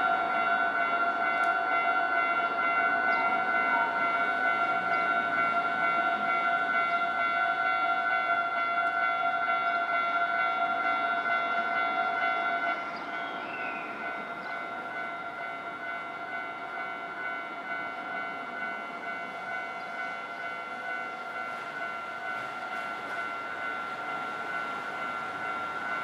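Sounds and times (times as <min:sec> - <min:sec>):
level crossing alarm ringing: 0:00.0 - 0:26.0.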